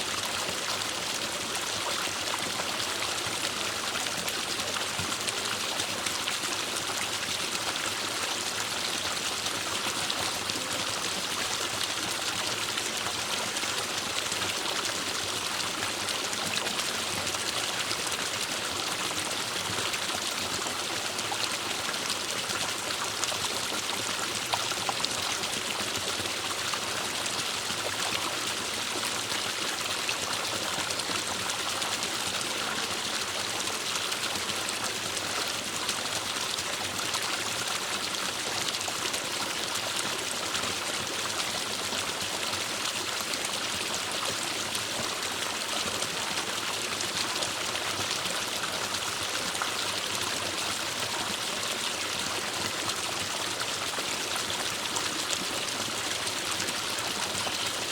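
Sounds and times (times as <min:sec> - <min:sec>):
stream running over rocks: 0:00.0 - 0:57.9.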